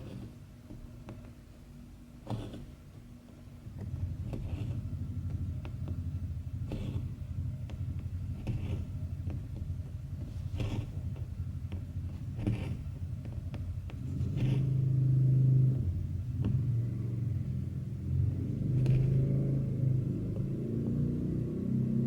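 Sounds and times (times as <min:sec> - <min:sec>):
scratchy strokes: 0:00.0 - 0:01.3, 0:02.2 - 0:03.0, 0:03.7 - 0:20.9
low rumbling hum: 0:03.8 - 0:22.0.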